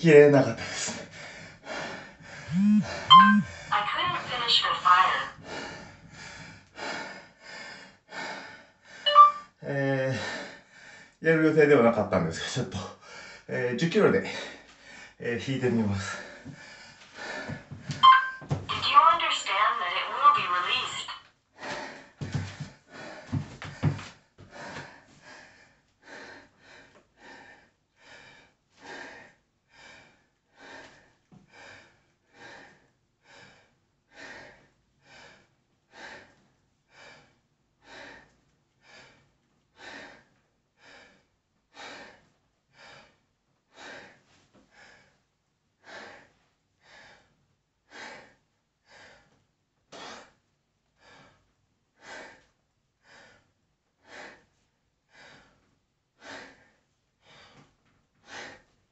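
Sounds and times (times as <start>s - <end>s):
man breathing hard: 0.6s - 3.7s, 5.4s - 9.0s, 10.2s - 11.2s, 12.9s - 13.5s, 14.3s - 15.2s, 16.0s - 18.0s, 21.5s - 58.8s.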